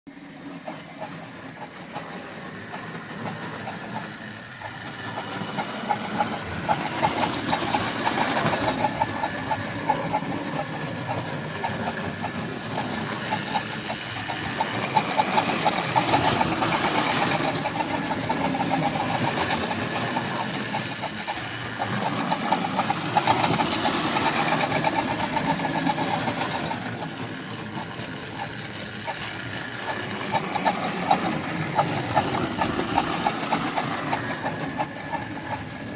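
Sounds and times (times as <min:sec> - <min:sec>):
model train chuffing: 0:00.1 - 0:35.9.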